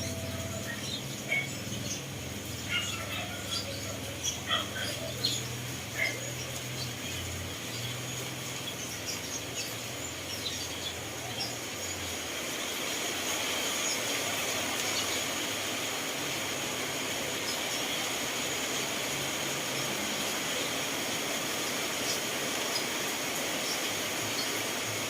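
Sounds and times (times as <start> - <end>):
steady rainfall hiss: 0.0 - 25.0.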